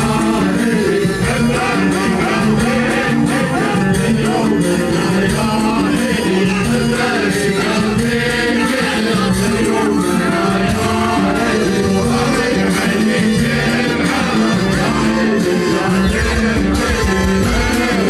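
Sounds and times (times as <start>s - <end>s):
men singing together: 0.0s - 18.0s
percussion beat: 0.0s - 18.0s.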